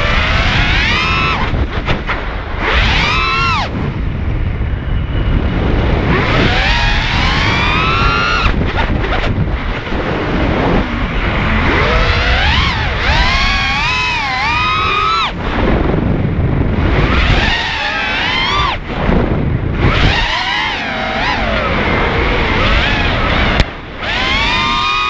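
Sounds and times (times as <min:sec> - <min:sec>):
drone motors whining: 0:00.0 - 0:25.0
rushing air: 0:00.0 - 0:25.0.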